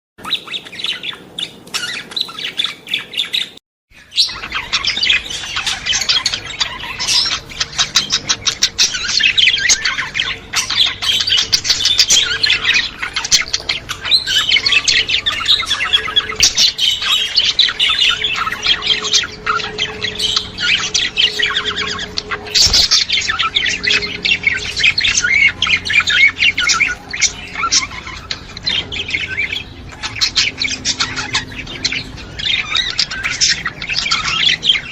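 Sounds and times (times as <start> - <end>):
budgerigars chattering: 0.2 - 34.9.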